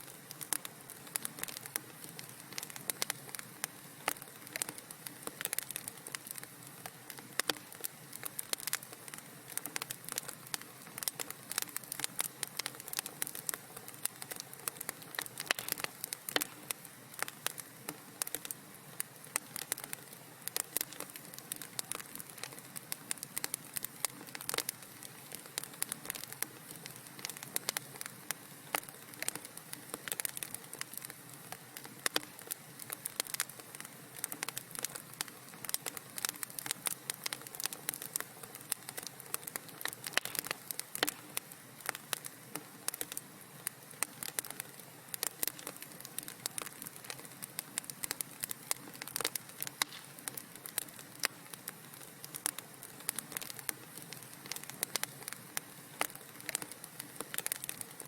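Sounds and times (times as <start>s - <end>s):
soft steady hiss: 0.0s - 58.0s
wood fire crackling: 0.0s - 58.0s.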